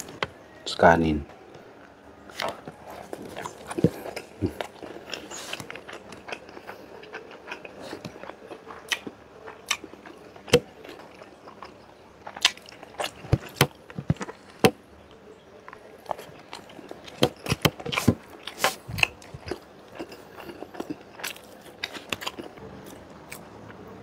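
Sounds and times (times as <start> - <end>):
person chewing and lip-smacking: 2.3 - 14.8, 15.7 - 23.7.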